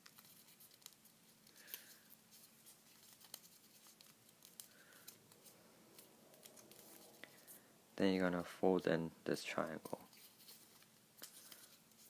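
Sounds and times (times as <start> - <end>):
paper being creased and folded: 0.0 - 7.6, 9.8 - 12.0.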